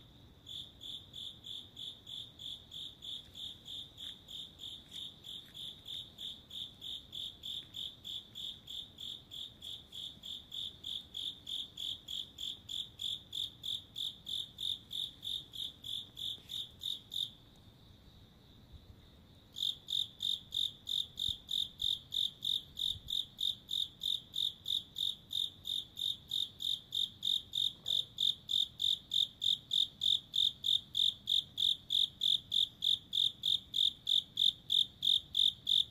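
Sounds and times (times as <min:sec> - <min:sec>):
insect chirping: 0:00.0 - 0:35.9.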